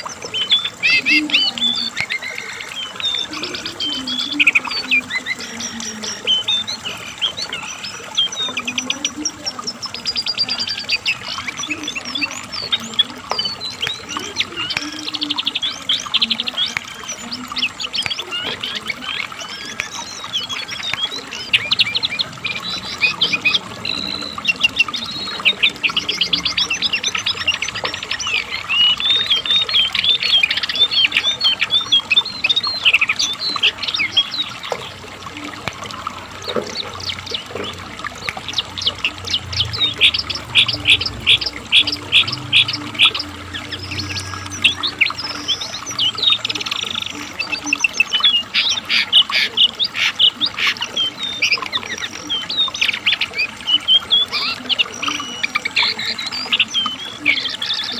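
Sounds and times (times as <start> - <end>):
bird trilling and chirping: 0.0 - 57.9.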